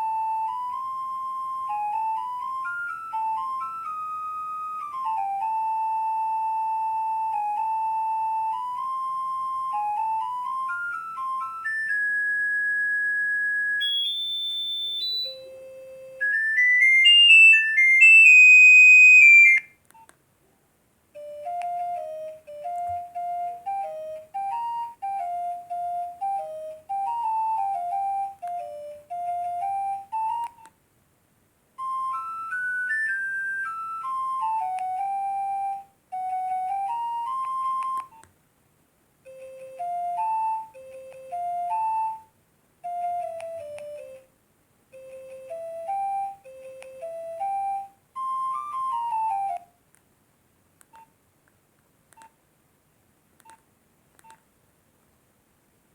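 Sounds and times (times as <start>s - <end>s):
mobile phone ringtone melody: 0.0s - 19.8s, 21.2s - 30.6s, 31.8s - 38.2s, 39.3s - 44.3s, 45.0s - 49.7s.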